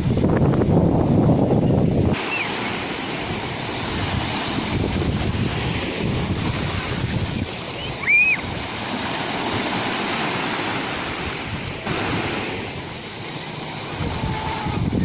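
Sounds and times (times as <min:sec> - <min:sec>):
sea waves breaking: 0:00.0 - 0:15.0.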